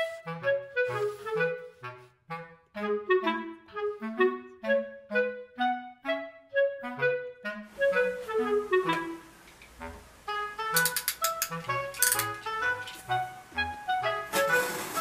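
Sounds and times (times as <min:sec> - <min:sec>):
light woodwind melody: 0:00.0 - 0:15.0.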